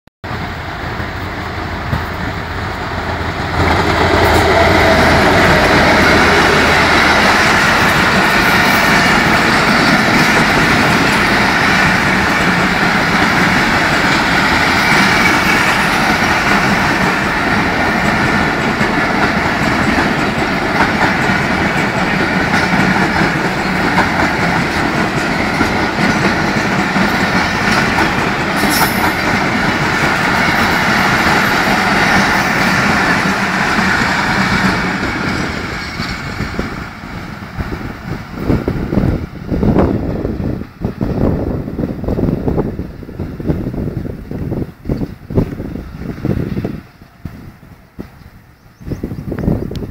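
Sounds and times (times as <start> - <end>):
train wheels rumbling over rails: 0.2 - 49.9.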